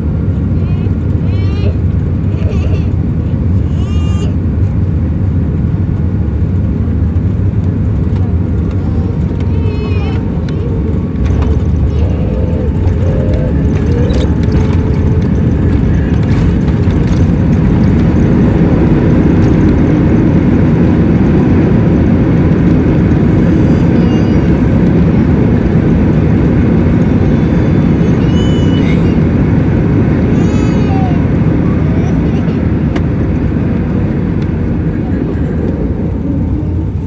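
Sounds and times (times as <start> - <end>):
jet engines and wheels rumbling: 0.0 - 37.0.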